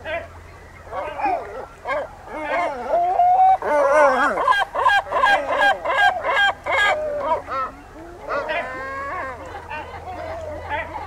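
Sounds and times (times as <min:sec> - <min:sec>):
gull long call: 0:00.9 - 0:10.7.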